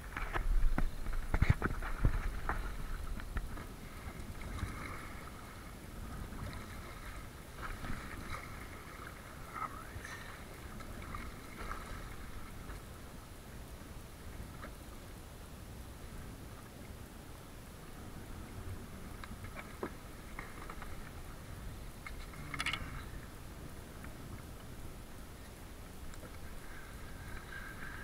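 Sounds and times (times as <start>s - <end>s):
water splashing against kayak hull: 0.0s - 14.9s, 18.0s - 28.0s.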